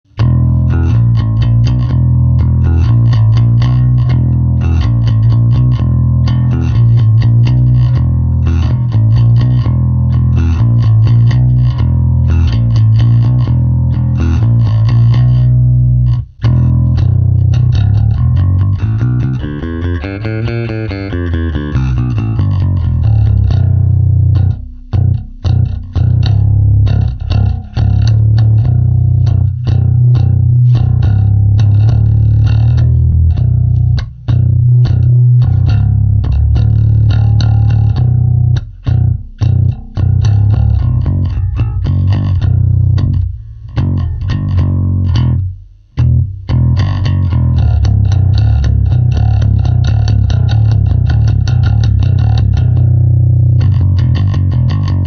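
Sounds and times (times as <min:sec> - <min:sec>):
electric bass notes: 0:00.0 - 0:55.0.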